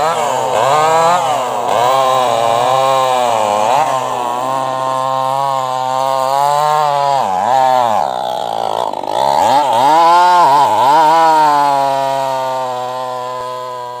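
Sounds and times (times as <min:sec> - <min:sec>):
chainsaw cutting log: 0:00.0 - 0:14.0.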